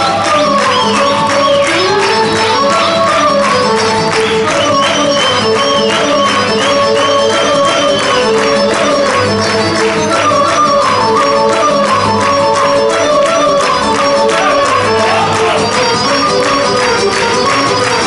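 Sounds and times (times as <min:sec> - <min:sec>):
folk dance music with accordion: 0:00.0 - 0:18.0.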